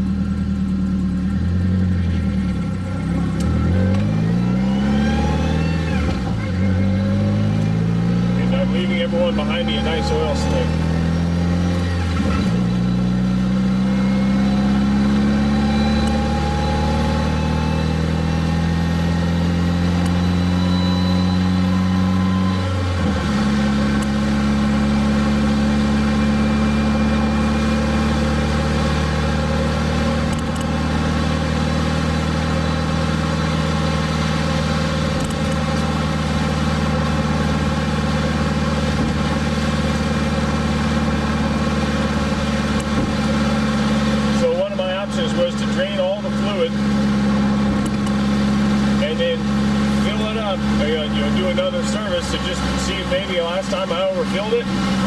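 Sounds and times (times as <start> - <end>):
gear change: 0.0 - 55.0
pickup truck engine running: 0.0 - 55.0.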